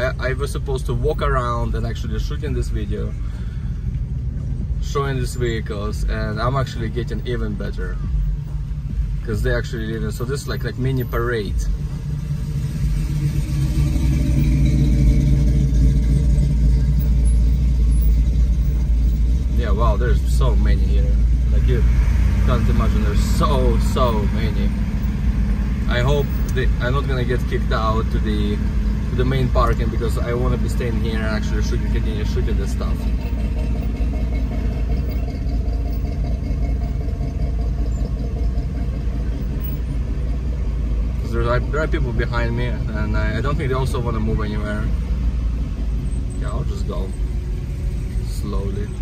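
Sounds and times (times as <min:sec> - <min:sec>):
low rumble of car engines: 0:00.0 - 0:49.0.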